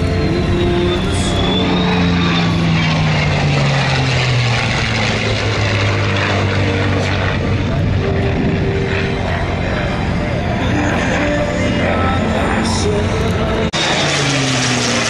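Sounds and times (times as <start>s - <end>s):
jet noise: 0.0s - 15.0s
propeller engine drone: 0.0s - 15.0s.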